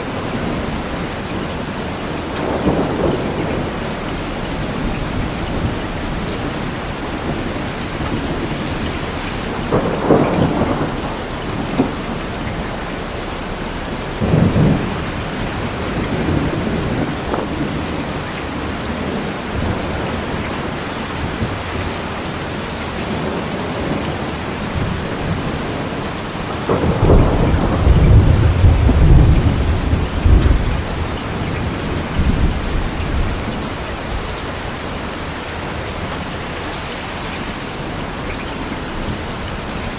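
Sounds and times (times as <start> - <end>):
thunder rumbling: 0.0 - 35.1
steady rain falling: 0.0 - 39.9.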